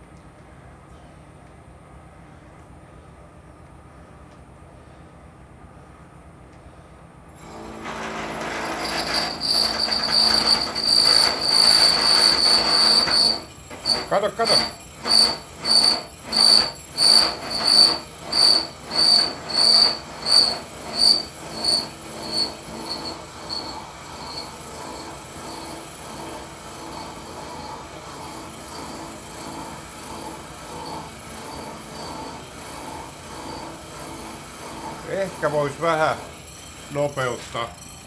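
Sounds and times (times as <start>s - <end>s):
saw screeching into metal: 7.4s - 38.0s.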